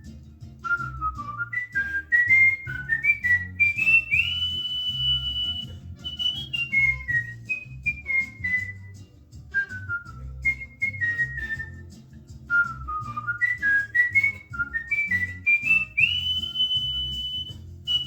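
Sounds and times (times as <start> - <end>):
cockatiel whistling a tune: 0.6 - 18.0.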